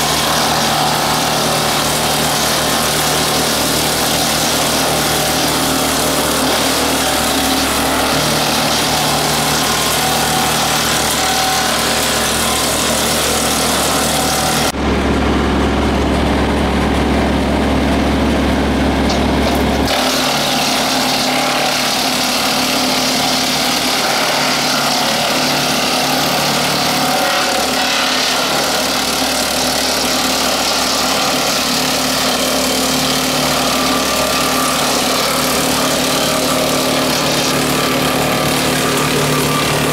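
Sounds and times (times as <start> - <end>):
wood chipper and tractor engine: 0.0 - 39.9.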